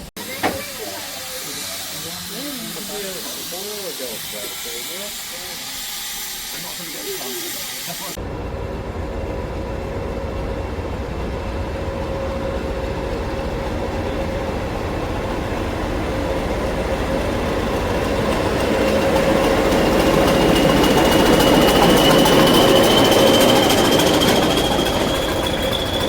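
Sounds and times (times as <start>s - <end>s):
locomotive hum: 0.0s - 26.0s.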